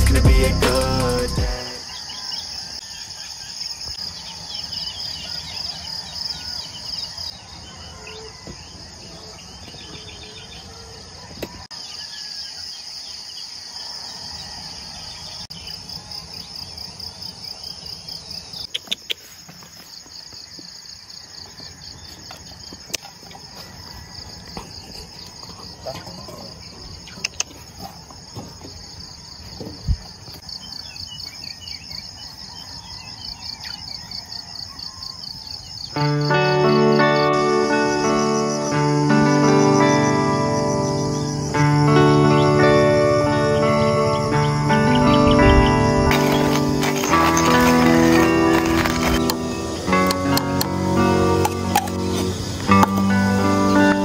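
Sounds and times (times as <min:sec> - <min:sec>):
insects chirping: 0:00.0 - 0:54.0.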